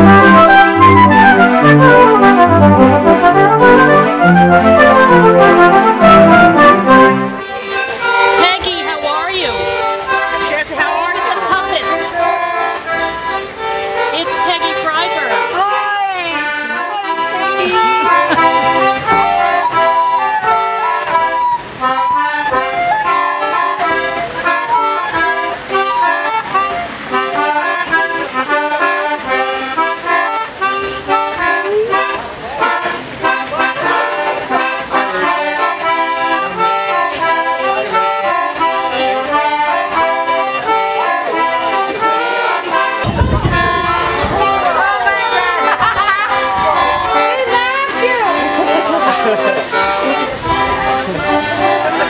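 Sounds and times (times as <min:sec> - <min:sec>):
brisk instrumental tune: 0:00.0 - 0:52.0.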